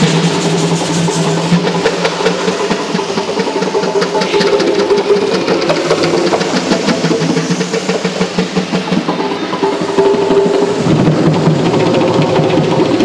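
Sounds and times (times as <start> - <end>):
hand drums playing fast rhythm: 0.0 - 13.0.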